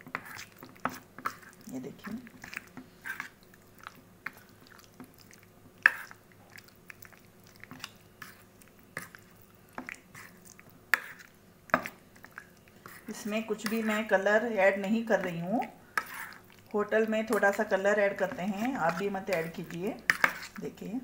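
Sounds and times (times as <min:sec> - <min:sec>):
wet squelching of marinade: 0:00.0 - 0:20.9.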